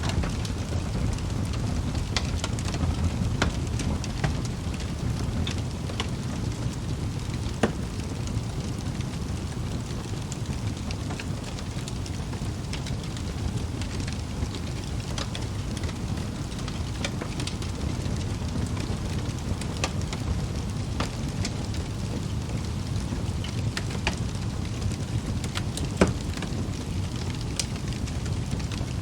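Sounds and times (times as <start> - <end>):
fire flames rushing: 0.0 - 29.0
logs crackling and popping: 0.0 - 29.0.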